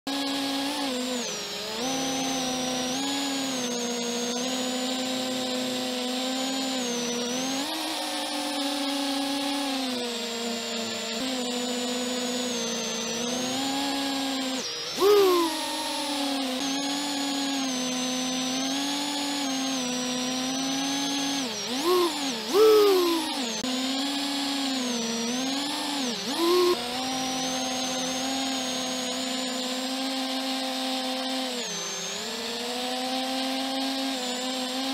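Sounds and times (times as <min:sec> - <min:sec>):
quadcopter motors whining: 0:00.0 - 0:34.9.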